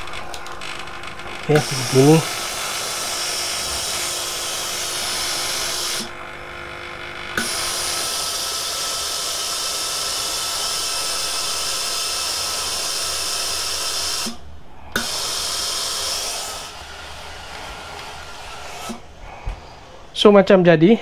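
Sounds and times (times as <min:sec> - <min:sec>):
steam iron hissing: 0:01.3 - 0:06.2, 0:07.3 - 0:14.4, 0:15.0 - 0:20.1.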